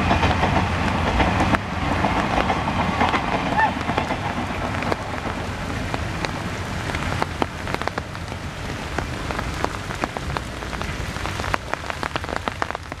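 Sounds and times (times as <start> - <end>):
heavy rain hissing: 0.0 - 13.0
rain drops hitting: 0.0 - 13.0.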